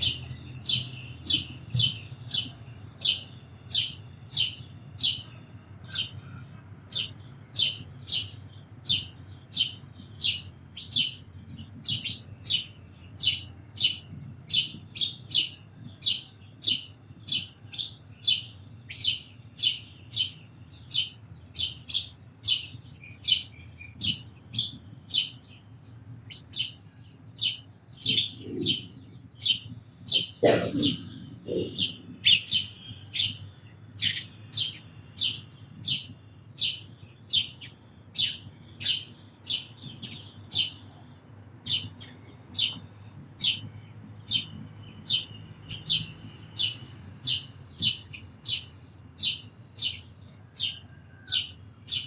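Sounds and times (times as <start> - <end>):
sparrow chirping: 0.0 - 52.0.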